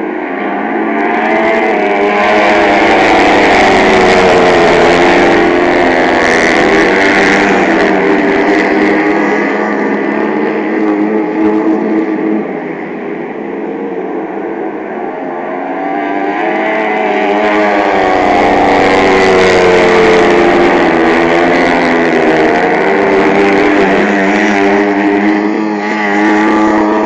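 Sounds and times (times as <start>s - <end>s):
motorcycle engines racing: 0.0s - 27.0s.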